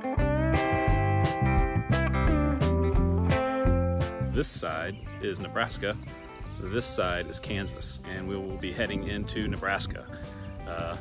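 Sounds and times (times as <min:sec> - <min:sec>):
guitar chords: 0:00.0 - 0:11.0.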